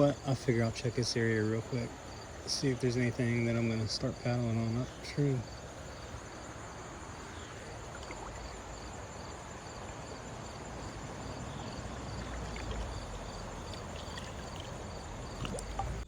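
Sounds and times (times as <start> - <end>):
flowing river water: 0.0 - 16.0
insect chirping: 0.0 - 16.0.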